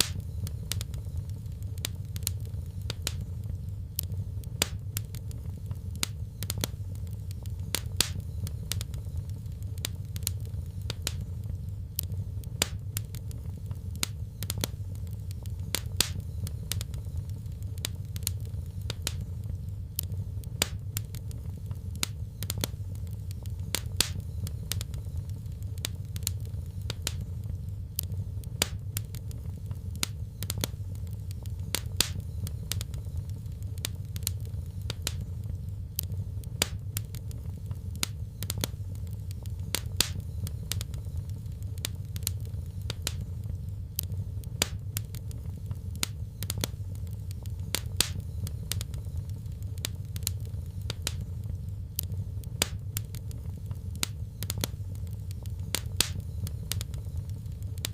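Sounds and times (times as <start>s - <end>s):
low rumble of flames: 0.0s - 57.9s
wood fire crackling and popping: 0.0s - 57.9s.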